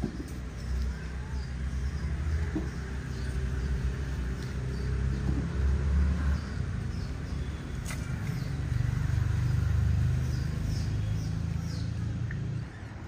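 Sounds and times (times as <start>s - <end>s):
small birds chirping: 0.0s - 13.0s
vehicle engine humming: 0.0s - 13.0s.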